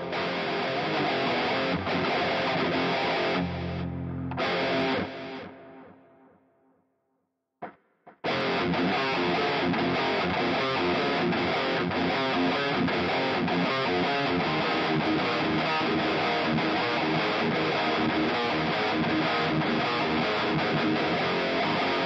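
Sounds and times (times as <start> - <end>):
high-gain electric guitar lead: 0.0 - 6.4, 7.6 - 22.0.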